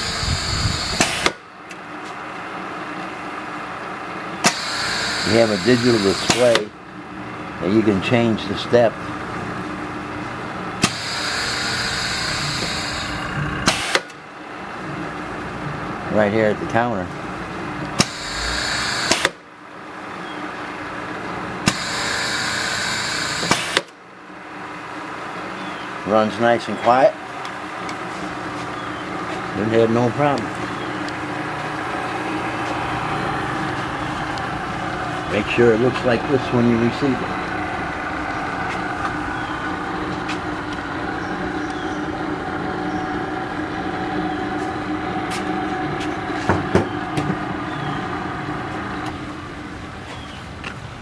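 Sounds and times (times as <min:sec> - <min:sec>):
riveting machine whirring: 0:00.0 - 0:01.9, 0:02.6 - 0:51.0.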